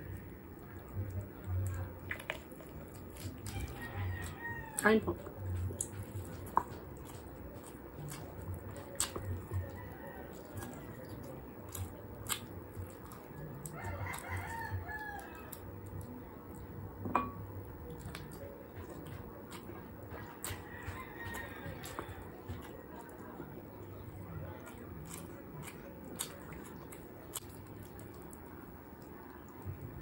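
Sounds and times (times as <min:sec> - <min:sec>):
chewing: 0:00.0 - 0:30.0.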